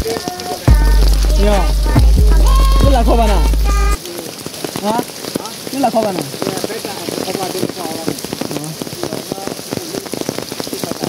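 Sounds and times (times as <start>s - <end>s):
faint voices: 0.0s - 11.0s
raindrops striking close by: 0.0s - 11.0s
steady rain falling: 0.0s - 11.0s.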